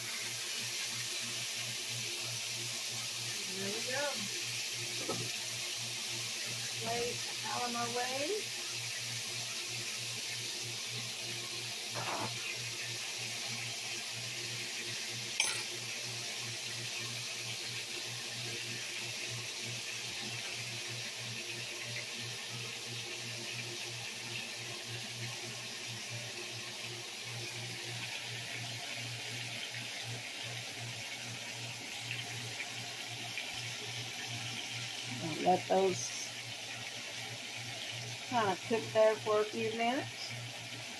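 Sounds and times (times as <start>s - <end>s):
meat sizzling in a skillet: 0.0s - 40.9s.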